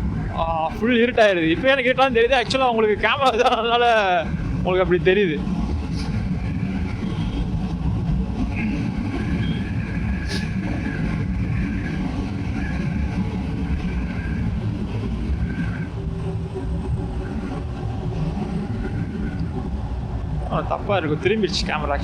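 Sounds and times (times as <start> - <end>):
motorcycle engine running: 0.0 - 22.0
road and wind rush: 0.0 - 22.0.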